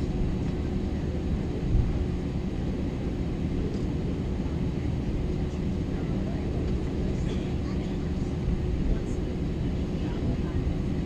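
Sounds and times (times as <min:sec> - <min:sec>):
jet engines idling rumble: 0:00.0 - 0:11.0.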